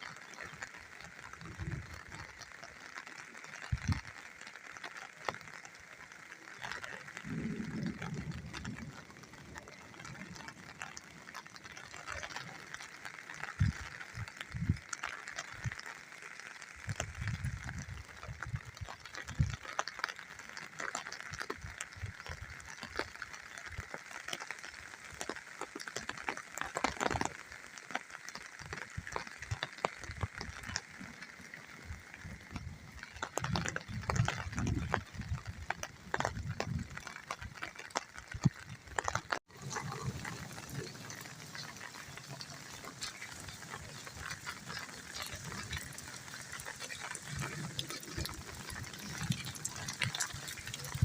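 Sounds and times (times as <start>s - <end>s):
rain patter: 0.0s - 51.0s.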